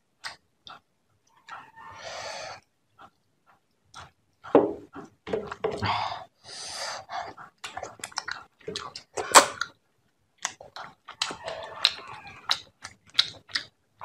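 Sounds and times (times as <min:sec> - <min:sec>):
wet chewing and lip smacks: 0:00.2 - 0:01.7, 0:02.6 - 0:05.6, 0:07.1 - 0:14.0.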